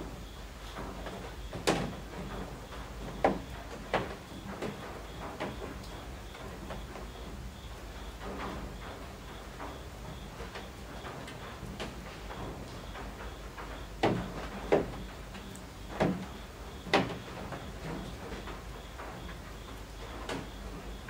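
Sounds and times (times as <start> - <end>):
rain on roof eaves: 0.0 - 21.0.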